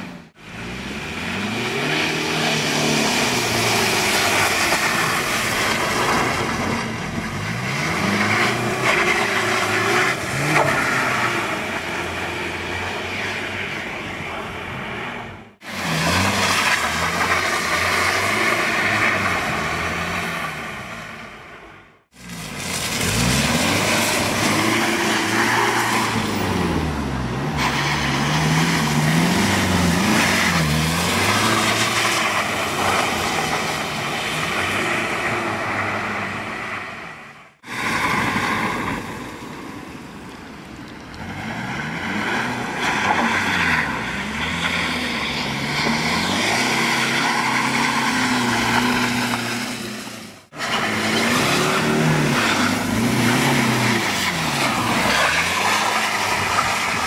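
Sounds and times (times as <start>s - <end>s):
car engine revving: 0.0s - 21.2s, 22.1s - 39.2s, 41.1s - 57.0s
tyres spinning in wet slush: 1.2s - 13.8s, 15.7s - 20.8s, 22.2s - 37.0s, 41.2s - 57.0s.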